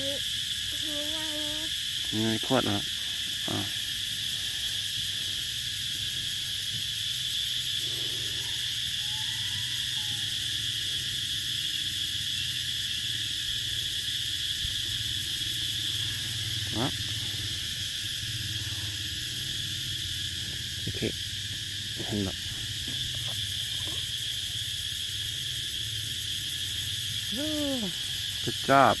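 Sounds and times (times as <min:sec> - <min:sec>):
insect chorus: 0:00.0 - 0:29.0.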